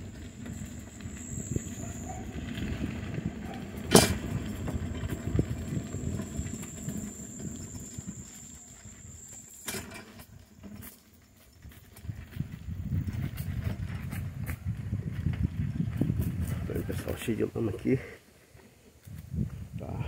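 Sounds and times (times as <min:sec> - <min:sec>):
bicycle rattling on dirt track: 0:00.0 - 0:19.8.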